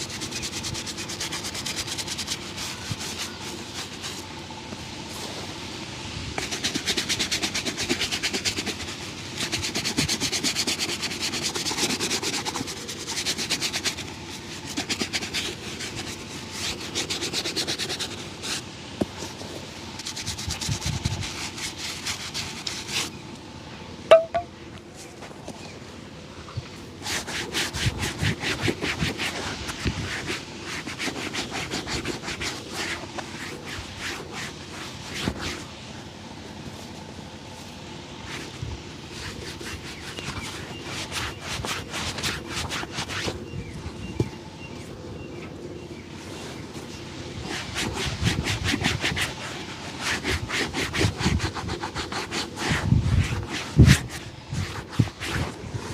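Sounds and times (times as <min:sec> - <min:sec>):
brush scrubbing leather shoe: 0:00.0 - 0:05.8, 0:06.4 - 0:23.3, 0:27.0 - 0:44.5, 0:46.2 - 0:55.9.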